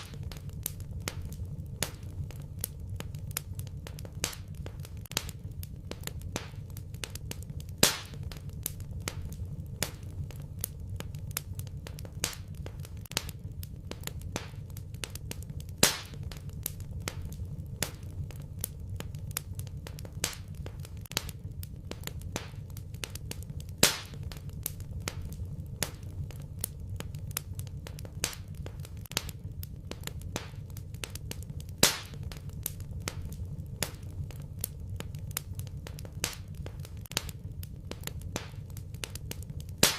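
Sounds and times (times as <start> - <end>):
fire pops: 0.0 - 39.9
wood fire crackling: 0.0 - 39.9.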